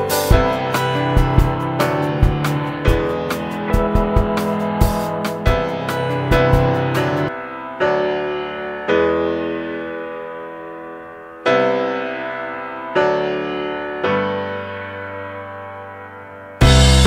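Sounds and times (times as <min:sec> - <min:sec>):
slow keyboard chords: 0:00.0 - 0:17.0.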